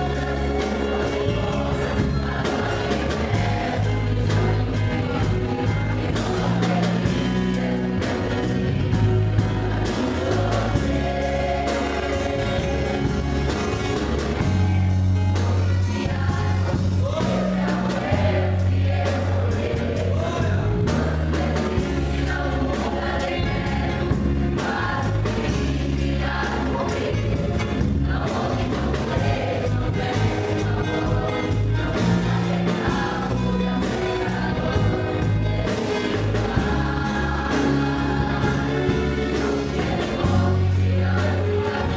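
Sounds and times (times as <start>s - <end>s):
bass line in held notes: 0.0s - 41.9s
choir singing a hymn: 0.0s - 41.9s
instrumental accompaniment: 0.0s - 41.9s.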